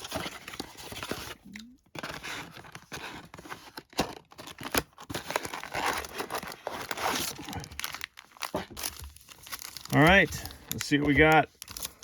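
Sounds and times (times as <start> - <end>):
shrink-wrap and cardboard crinkling: 0.0 - 12.0.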